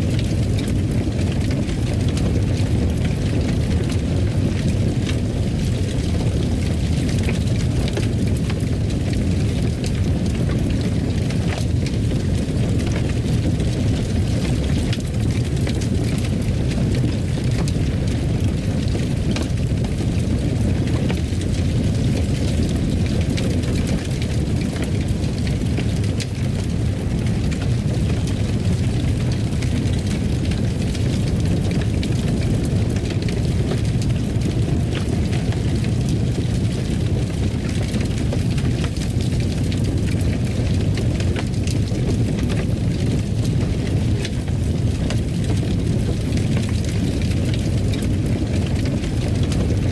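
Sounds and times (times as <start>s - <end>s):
wood fire burning: 0.0s - 49.9s.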